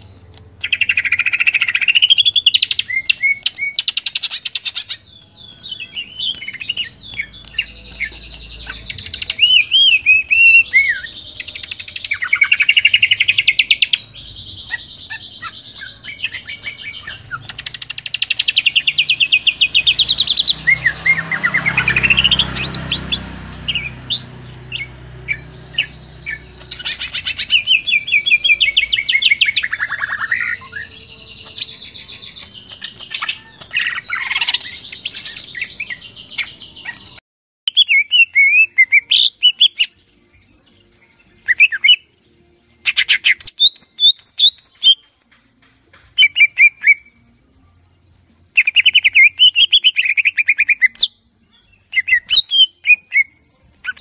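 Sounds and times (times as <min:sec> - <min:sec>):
bird singing chattering phrases: 0:00.0 - 0:40.0, 0:42.8 - 0:45.0, 0:48.5 - 0:54.0.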